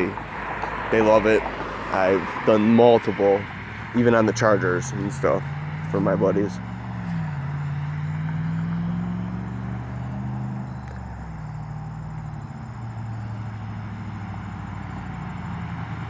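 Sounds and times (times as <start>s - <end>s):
engine running through exhaust: 0.0s - 16.0s.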